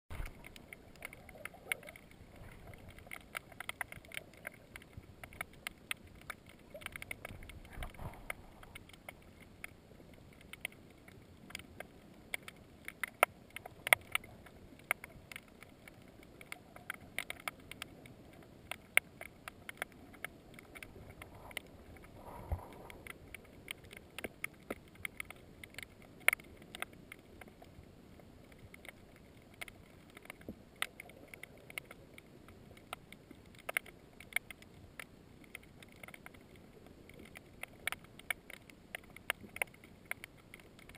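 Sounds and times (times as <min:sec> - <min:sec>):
sharp clicks and crackles: 0:00.1 - 0:40.9
underwater rush of water: 0:00.1 - 0:40.9.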